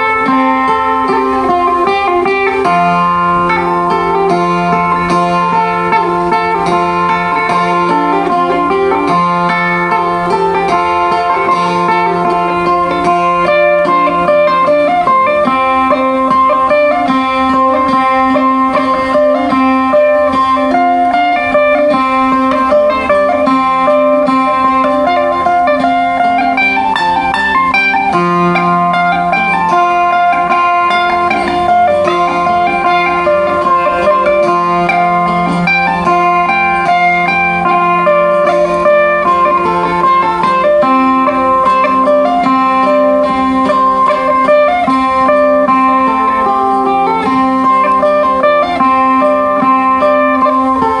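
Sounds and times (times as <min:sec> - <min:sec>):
plucked boat lute melody: 0:00.0 - 0:51.0.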